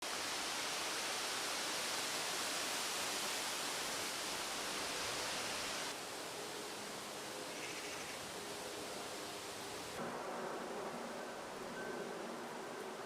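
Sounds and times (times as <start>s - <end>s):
hissing garden ambience: 0.0s - 13.0s.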